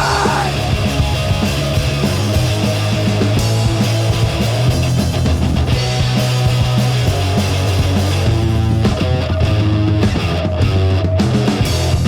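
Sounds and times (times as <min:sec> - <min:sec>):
bass guitar: 0:00.0 - 0:12.0
distorted electric guitars: 0:00.0 - 0:12.0
drums playing: 0:00.0 - 0:12.0.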